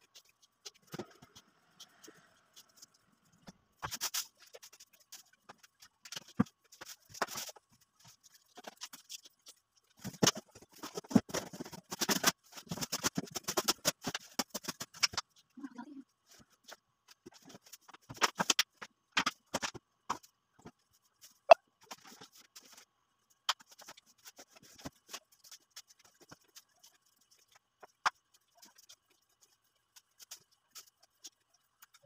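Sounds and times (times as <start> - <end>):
household items clicking and knocking: 0.0 - 15.6, 16.2 - 32.0.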